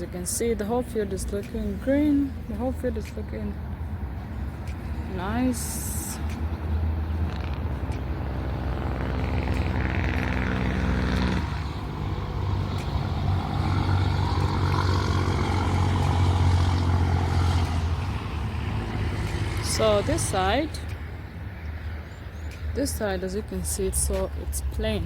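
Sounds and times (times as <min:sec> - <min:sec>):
engine running with low rumble: 0:00.0 - 0:25.0.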